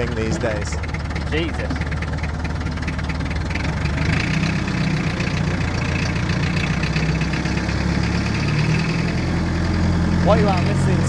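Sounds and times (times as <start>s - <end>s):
forklift diesel engine running: 0.0s - 11.0s.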